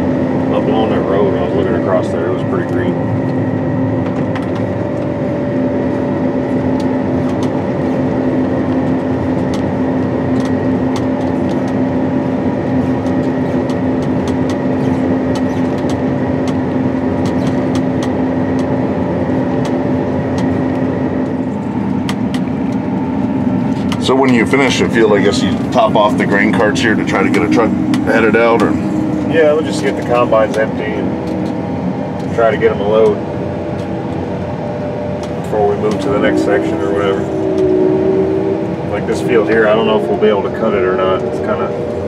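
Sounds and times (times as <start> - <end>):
combine harvester droning: 0.0 - 42.0.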